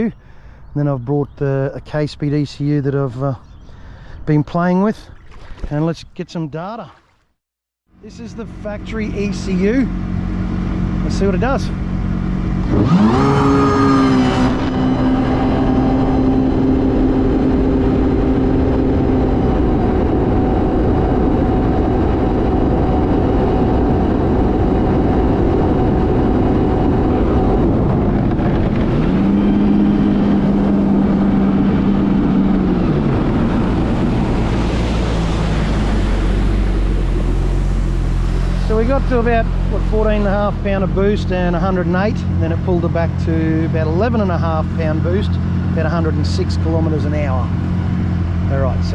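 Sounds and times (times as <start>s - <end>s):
jet ski engine at full throttle: 8.1s - 48.9s.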